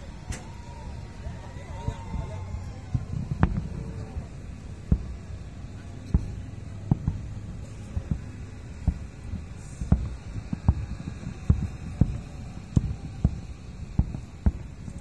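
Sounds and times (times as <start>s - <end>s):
fireworks booming: 0.0s - 15.0s
low rumble: 0.0s - 15.0s.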